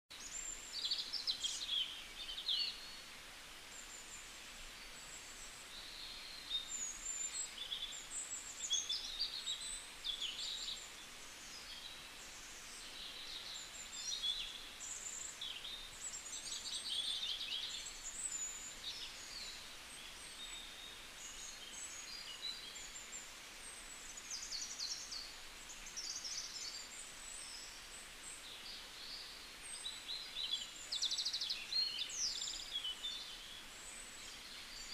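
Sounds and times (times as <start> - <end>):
birds chirping and twittering: 0.1 - 34.9
faint steady hiss: 0.1 - 34.9.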